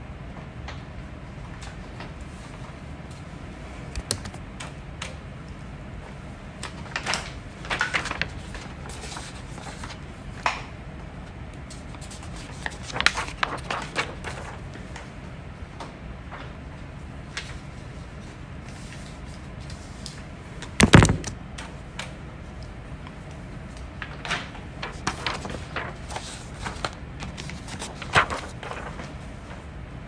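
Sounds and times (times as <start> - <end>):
low background hum: 0.0 - 30.0.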